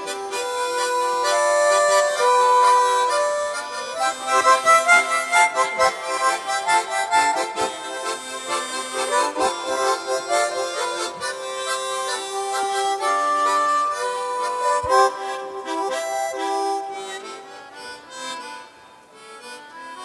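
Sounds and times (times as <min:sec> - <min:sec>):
harmonica ensemble playing tango: 0:00.0 - 0:20.0.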